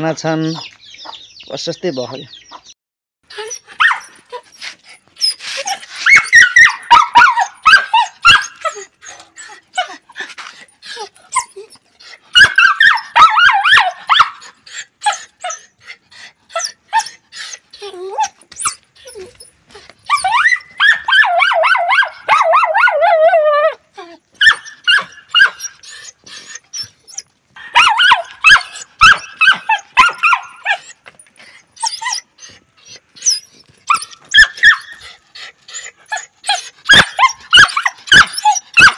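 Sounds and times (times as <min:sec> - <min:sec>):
dog whining and yelping: 0:03.3 - 0:38.9.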